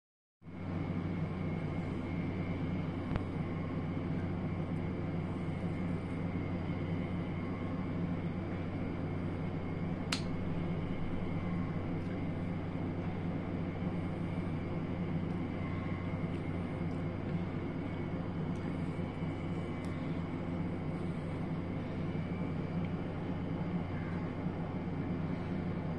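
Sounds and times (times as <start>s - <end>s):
low mechanical hum: 0.4s - 25.9s
high whine: 0.5s - 25.9s.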